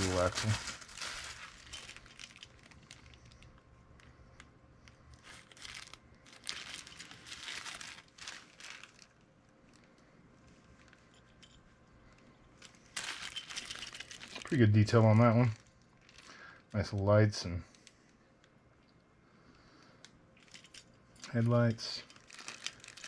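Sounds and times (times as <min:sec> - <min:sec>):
plastic bag crinkling: 0:00.0 - 0:16.8, 0:20.4 - 0:23.0.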